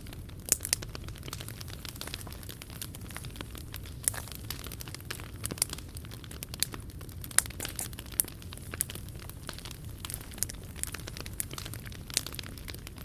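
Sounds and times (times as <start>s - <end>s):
sharp pops of fire: 0.0s - 13.0s
wood fire crackling: 0.0s - 13.0s.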